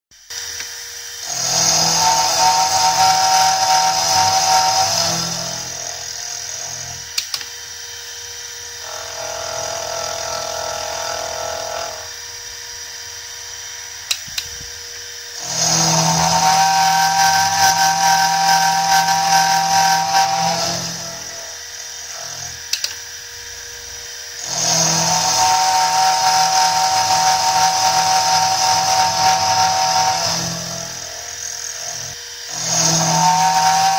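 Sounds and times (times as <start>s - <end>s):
end mill cutting metal: 0.2s - 33.9s
milling machine humming: 0.2s - 33.9s.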